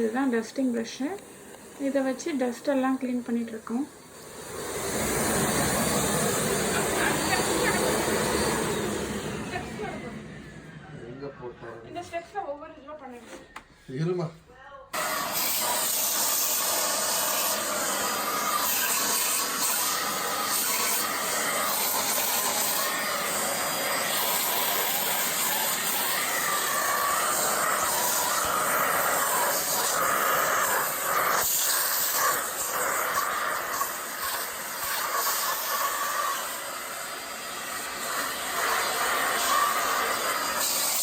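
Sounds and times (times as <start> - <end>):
vacuum cleaner running: 0.0 - 12.6, 14.9 - 41.0.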